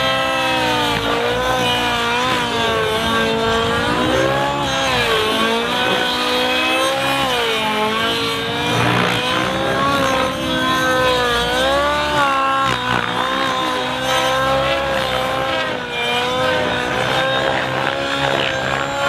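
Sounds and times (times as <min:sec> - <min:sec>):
model helicopter engine and rotor: 0:00.0 - 0:19.0.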